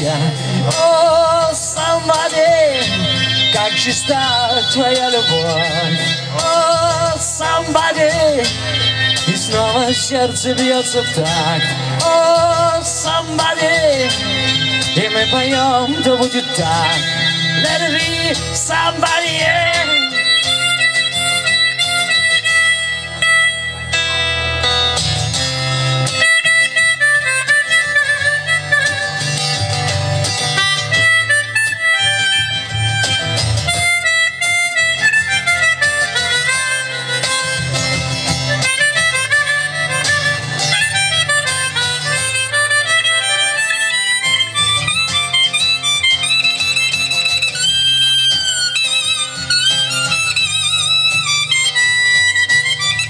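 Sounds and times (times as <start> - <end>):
bass line: 0.0 - 53.0
harmonica solo: 0.0 - 53.0
strummed guitar: 0.0 - 53.0.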